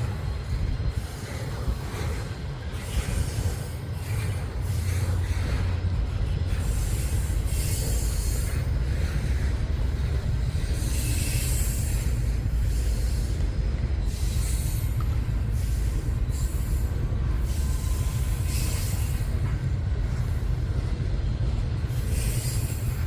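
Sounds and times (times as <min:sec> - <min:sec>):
freight train rumbling: 0:00.0 - 0:23.0
wheels grinding on rails: 0:00.0 - 0:23.0.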